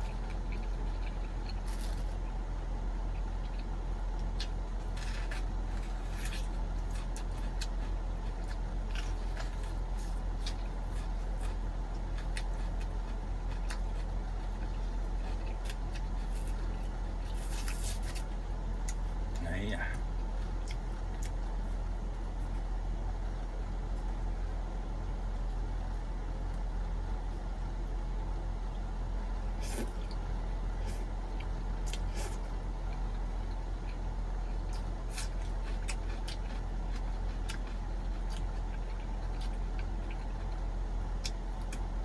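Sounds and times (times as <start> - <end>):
air conditioner humming: 0.0 - 42.0.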